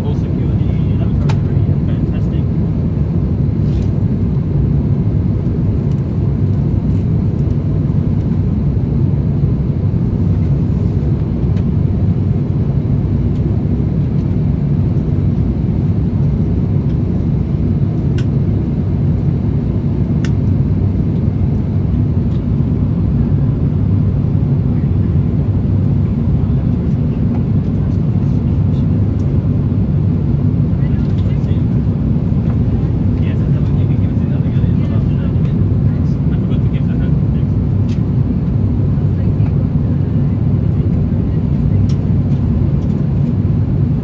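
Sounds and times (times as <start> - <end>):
jet airliner rumble: 0.0 - 44.0.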